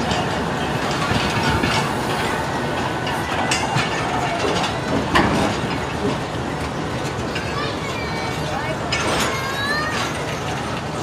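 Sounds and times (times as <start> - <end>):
train carriages rumbling on rails: 0.0 - 11.0.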